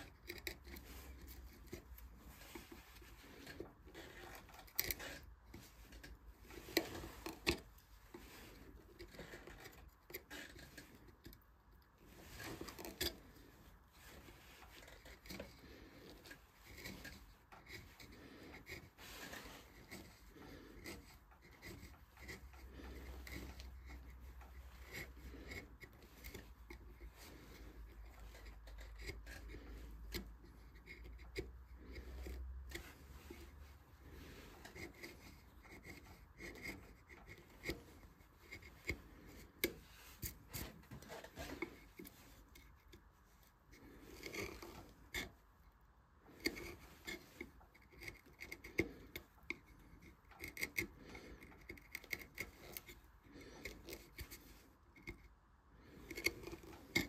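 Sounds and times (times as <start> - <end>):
carving tools scraping wood: 0.0 - 57.0.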